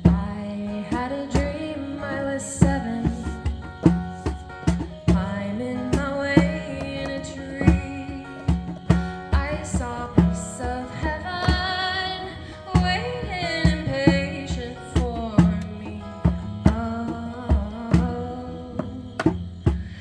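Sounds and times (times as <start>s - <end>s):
hand drum beating: 0.0s - 20.0s.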